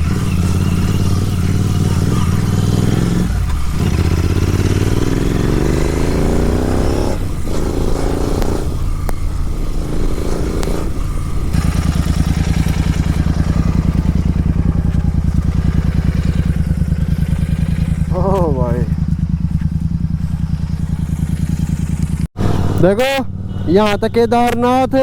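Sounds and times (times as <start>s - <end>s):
motorcycle engine accelerating: 0.0s - 24.6s.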